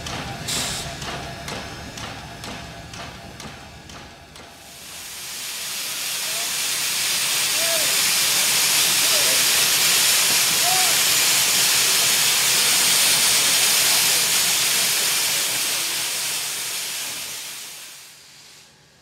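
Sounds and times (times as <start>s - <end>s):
steam locomotive venting steam: 0.0s - 19.0s.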